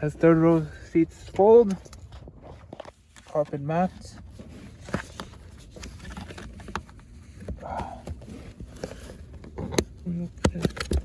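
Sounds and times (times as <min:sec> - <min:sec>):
handling knocks and clicks: 0:01.2 - 0:11.0.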